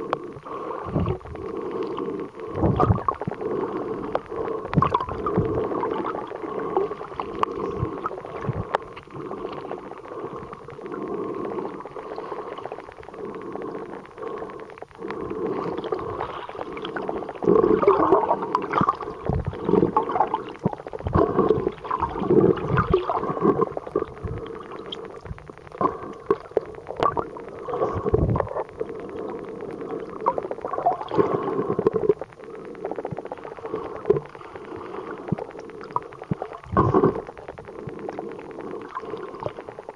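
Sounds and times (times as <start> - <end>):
gurgling water underwater: 0.0 - 39.9
steady two-tone hum: 0.0 - 39.9.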